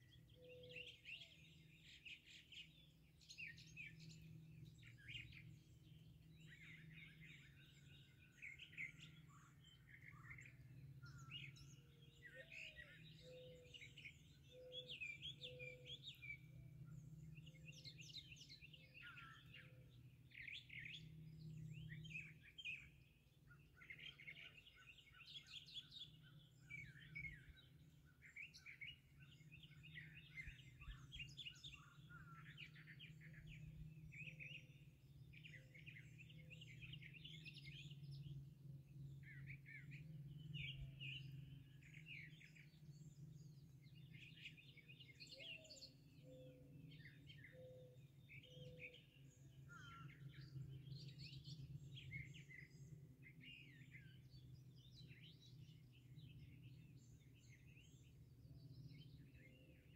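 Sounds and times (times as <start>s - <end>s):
low steady hum: 0.0s - 59.9s
songbirds singing: 0.0s - 59.9s.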